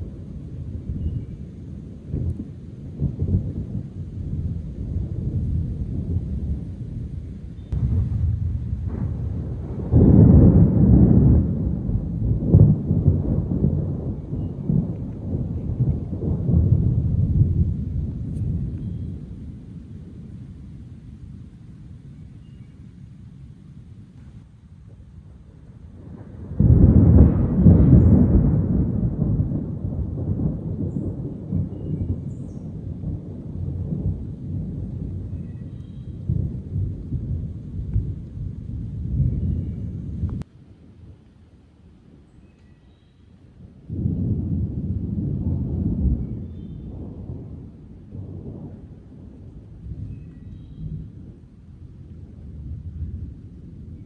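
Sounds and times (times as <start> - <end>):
rolling thunder: 0.0 - 22.3, 23.0 - 40.5, 43.6 - 54.0.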